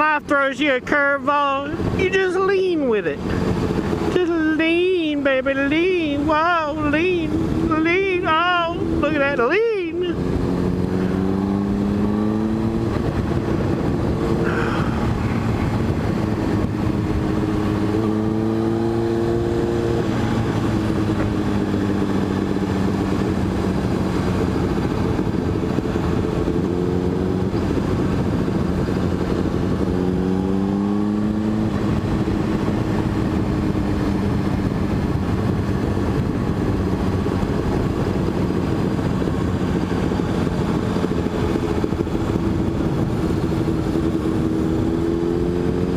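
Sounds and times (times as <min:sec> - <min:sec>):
motorcycle engine revving: 0:00.0 - 0:45.9
wind and road noise: 0:00.0 - 0:45.9.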